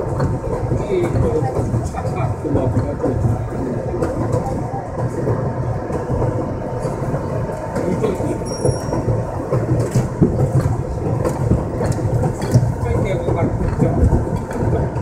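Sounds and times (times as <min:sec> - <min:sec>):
clicks over rail joints: 0:00.0 - 0:15.0
train wheels rumbling on rails: 0:00.0 - 0:15.0.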